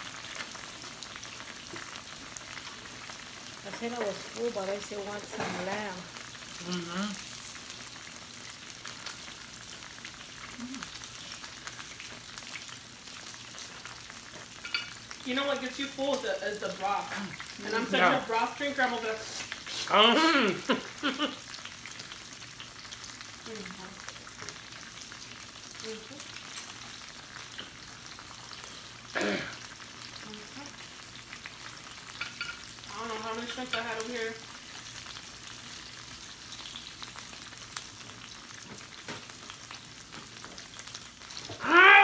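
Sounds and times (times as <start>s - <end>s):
meat sizzling on a grill plate: 0.0s - 42.0s.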